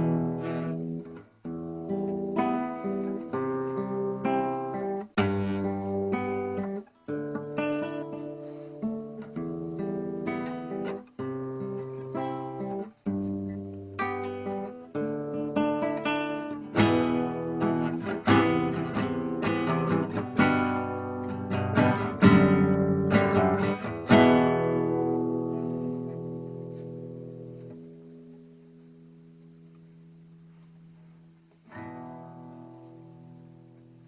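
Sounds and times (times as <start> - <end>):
acoustic guitar strumming chords: 0.0 - 34.0.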